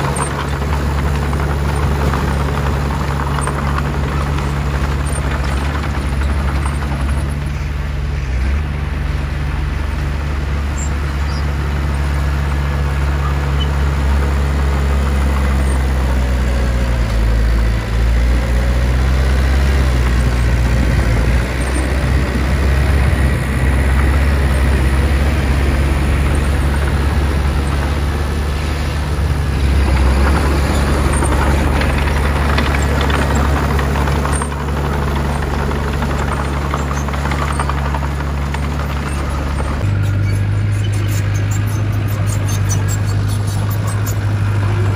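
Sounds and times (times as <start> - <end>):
bulldozer diesel engine droning: 0.0 - 44.9.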